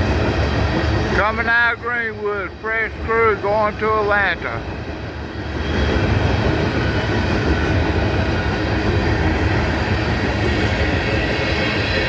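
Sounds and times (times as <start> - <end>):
freight train rumbling past: 0.0 - 12.0
wheels rushing on rail: 0.0 - 12.0.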